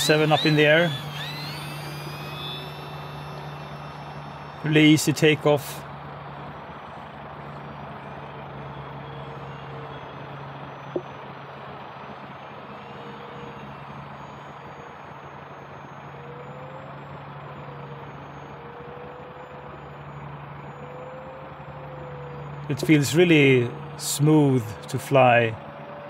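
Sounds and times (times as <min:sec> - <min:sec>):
model airplane motor whine: 0:00.0 - 0:26.0.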